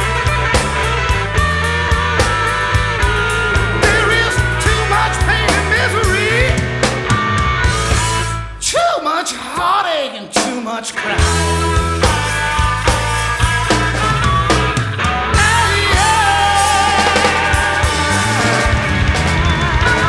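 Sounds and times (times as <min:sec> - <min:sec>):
rock song: 0:00.0 - 0:20.0.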